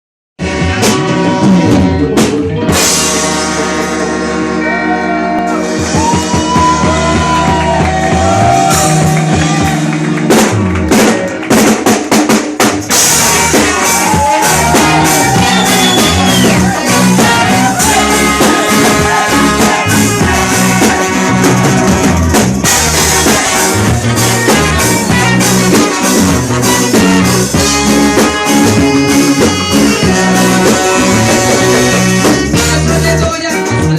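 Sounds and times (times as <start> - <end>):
music with drums and singing: 0.4 - 33.9.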